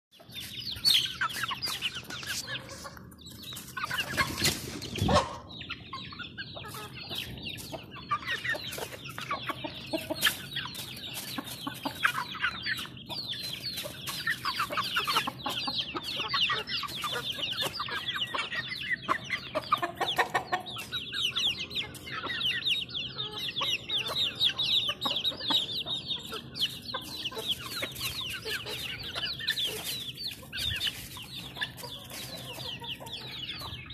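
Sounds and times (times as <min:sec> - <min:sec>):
chicks peeping and clucking: 0:00.1 - 0:33.9.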